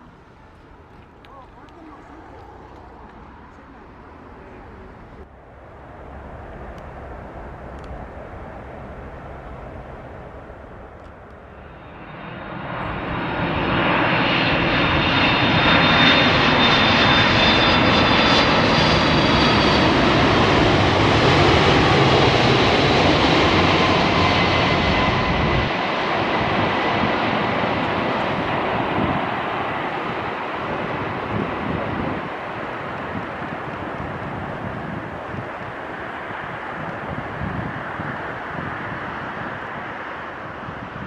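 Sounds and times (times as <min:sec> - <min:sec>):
jet engines roaring with whine: 0:00.0 - 0:41.0.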